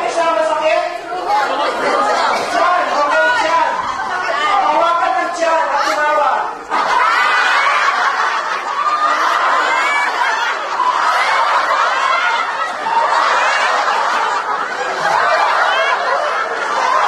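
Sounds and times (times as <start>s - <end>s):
group of people laughing: 0.0s - 17.0s.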